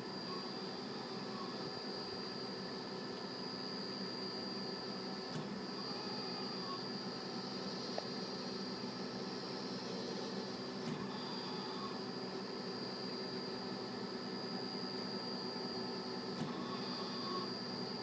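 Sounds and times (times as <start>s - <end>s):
machine hum with high whine: 0.0s - 18.0s.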